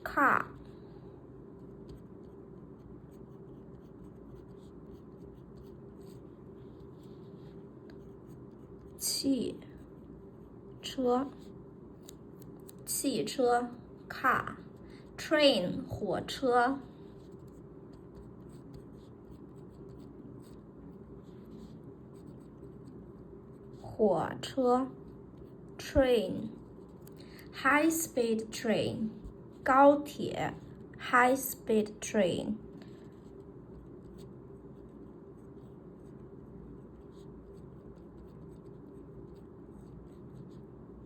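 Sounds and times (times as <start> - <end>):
pen scratching on paper: 0.0 - 41.0
steady low hum: 0.0 - 41.0.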